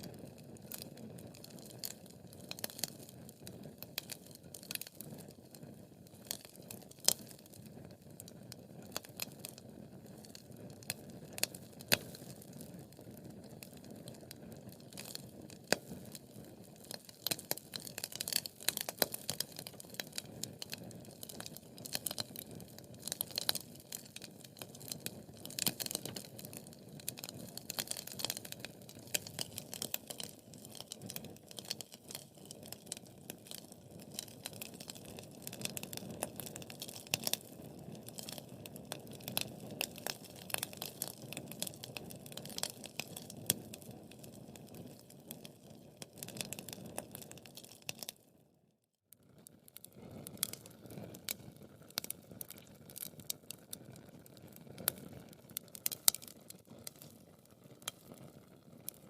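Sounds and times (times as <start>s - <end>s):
logs crackling and popping: 0.0s - 48.2s, 49.4s - 59.0s.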